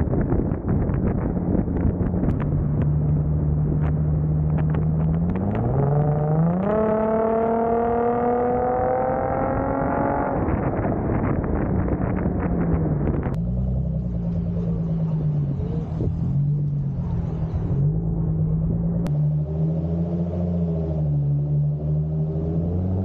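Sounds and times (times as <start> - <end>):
tyre and wind noise: 0.0 - 19.1
car engine revving: 1.8 - 23.0.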